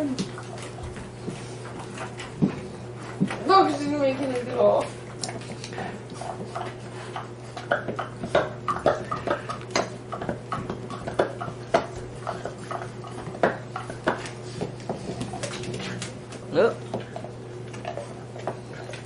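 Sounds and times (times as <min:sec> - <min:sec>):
puppies scuffling: 0:00.0 - 0:19.0
steady low hum: 0:00.0 - 0:19.0.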